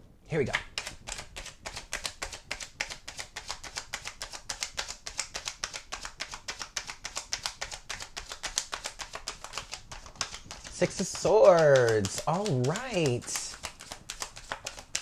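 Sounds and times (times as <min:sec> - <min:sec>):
cards shuffling: 0:00.4 - 0:15.0.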